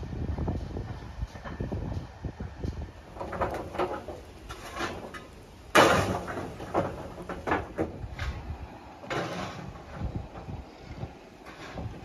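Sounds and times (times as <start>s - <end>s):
light knocks and clatter: 0.6s - 12.0s.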